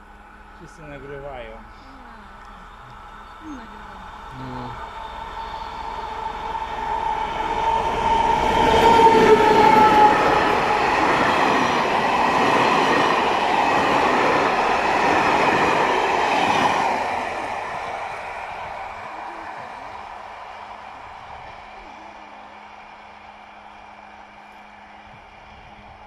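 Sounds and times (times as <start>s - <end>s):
diesel train passing: 0.0s - 26.0s
train wheels rushing on rails: 2.8s - 26.0s.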